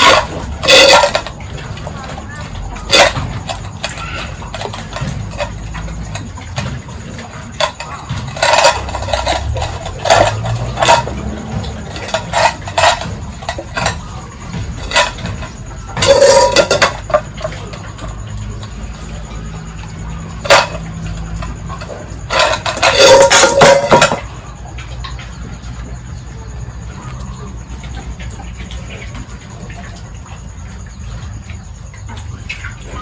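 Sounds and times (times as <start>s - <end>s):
metal containers clanking: 0.0s - 33.0s.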